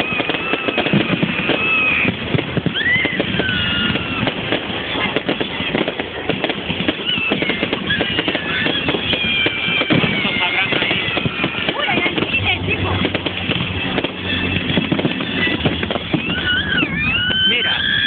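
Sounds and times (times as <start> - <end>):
fireworks crackling: 0.0 - 18.0
fireworks whistling: 0.0 - 18.0.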